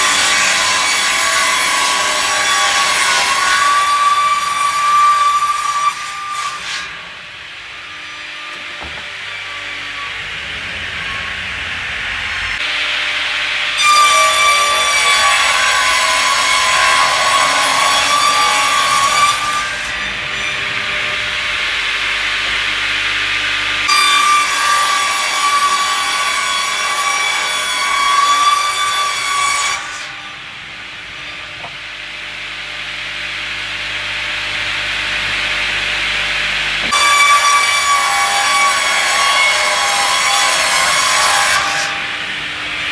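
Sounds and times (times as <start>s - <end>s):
saw cutting through timber: 0.0s - 42.9s
sawmill machine running: 0.0s - 42.9s.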